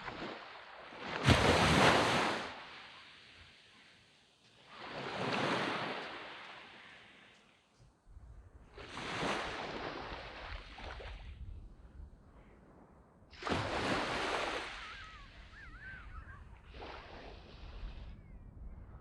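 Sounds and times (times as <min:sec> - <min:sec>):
waves washing on sandy beach: 0:00.0 - 0:07.7, 0:08.8 - 0:11.5, 0:13.3 - 0:18.2.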